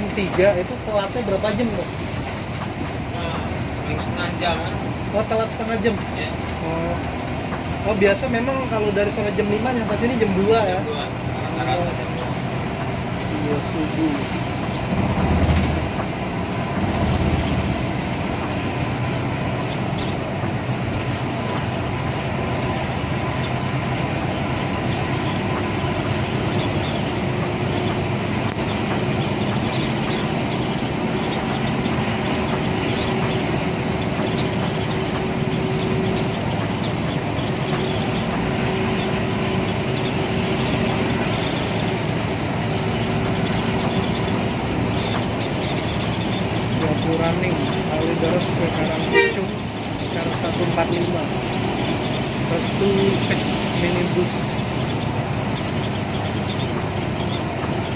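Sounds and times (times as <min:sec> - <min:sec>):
engine drone: 0:00.0 - 0:57.9
road noise: 0:00.0 - 0:57.9.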